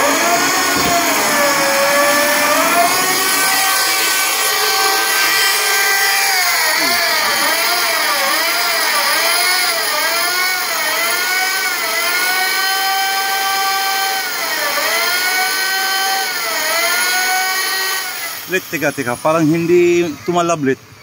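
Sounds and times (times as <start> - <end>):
electric drill motor whining: 0.0 - 20.2.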